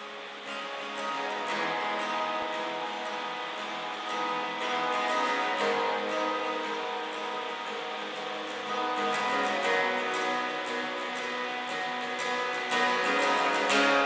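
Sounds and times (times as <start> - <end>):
music with ringing held notes: 0.0 - 14.0.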